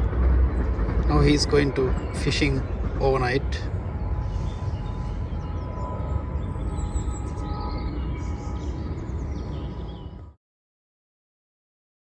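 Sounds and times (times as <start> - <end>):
wind rumble on microphone: 0.0 - 10.3.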